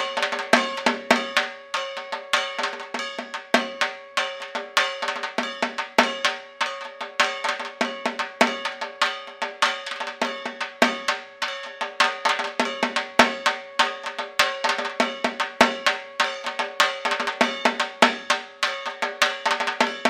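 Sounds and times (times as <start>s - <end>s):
fast metallic percussion: 0.0s - 20.0s.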